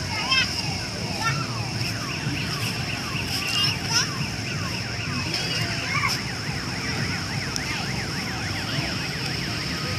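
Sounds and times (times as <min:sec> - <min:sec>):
low rumble of traffic: 0:00.0 - 0:09.9
steady high-pitched whine: 0:00.0 - 0:09.9
electronic siren wailing: 0:00.5 - 0:09.9.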